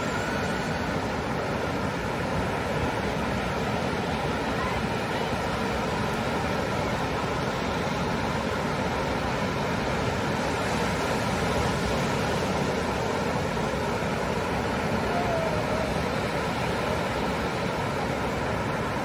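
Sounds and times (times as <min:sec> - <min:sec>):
ocean surf washing on beach: 0:00.0 - 0:19.0.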